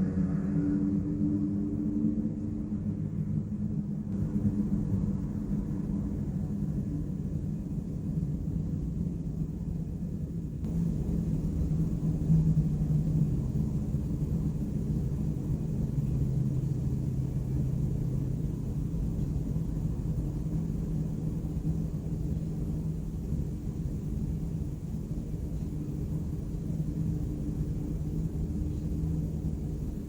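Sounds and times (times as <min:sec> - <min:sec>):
traffic rumble: 0:04.0 - 0:30.0.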